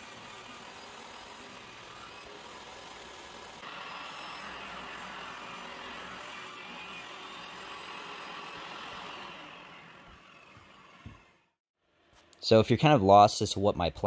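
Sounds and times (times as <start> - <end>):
table saw cutting wood: 0.0 - 11.6.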